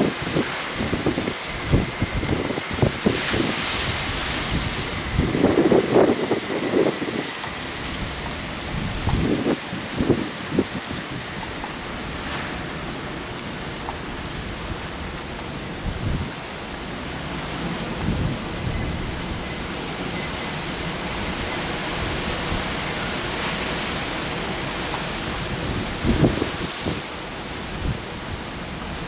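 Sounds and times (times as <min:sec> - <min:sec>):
heavy rain hissing: 0:00.0 - 0:29.0
wind gusts buffeting microphone: 0:00.0 - 0:29.0.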